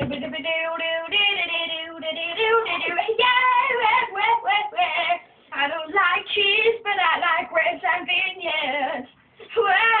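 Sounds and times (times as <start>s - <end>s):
child singing: 0.0s - 10.0s.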